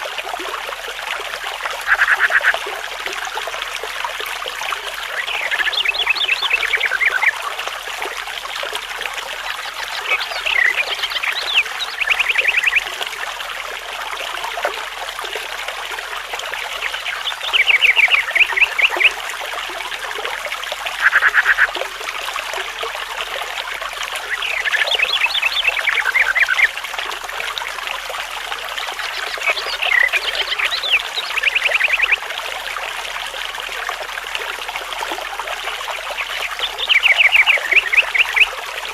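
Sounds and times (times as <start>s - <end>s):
running water babbling: 0.0s - 38.9s.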